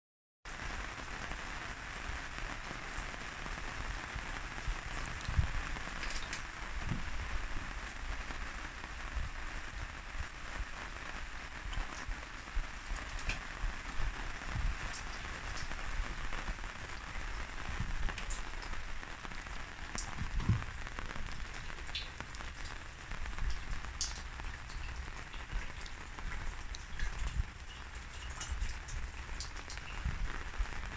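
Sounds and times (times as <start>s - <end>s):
steady rain hiss: 0.5s - 30.9s.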